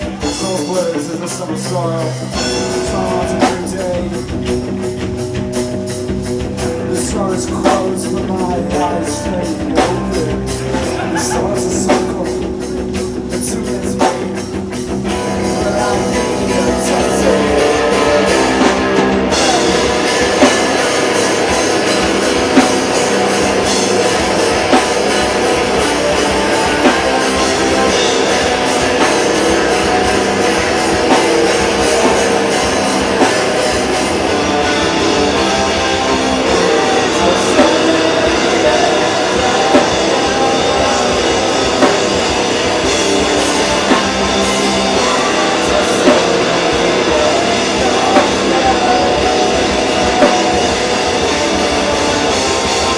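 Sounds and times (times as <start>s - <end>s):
bass guitar: 0.0s - 52.9s
distorted electric guitars: 0.0s - 52.9s
drum kit: 0.0s - 52.9s.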